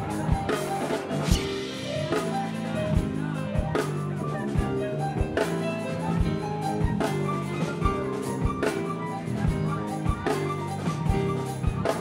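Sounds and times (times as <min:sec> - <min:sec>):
cymbals: 0:00.0 - 0:12.0
electric bass: 0:00.0 - 0:12.0
keyboards playing: 0:00.0 - 0:12.0.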